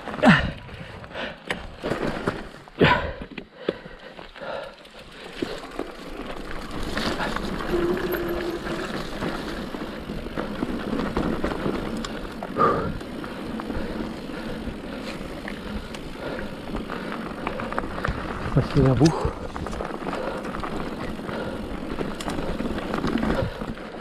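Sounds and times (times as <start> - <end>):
bike tyre and drivetrain rattle: 0.0 - 24.0.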